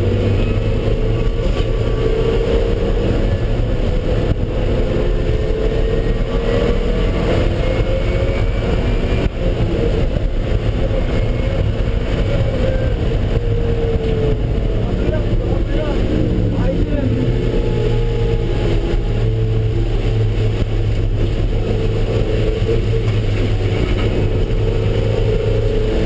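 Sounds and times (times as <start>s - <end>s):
car engine running hard: 0.0s - 26.0s
road and wind noise: 0.0s - 26.0s.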